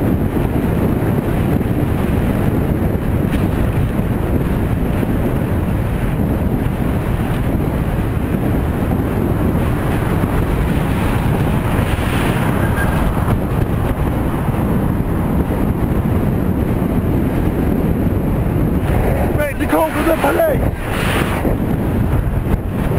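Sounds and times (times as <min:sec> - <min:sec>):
road noise: 0:00.0 - 0:22.9
wind buffeting microphone: 0:00.0 - 0:22.9.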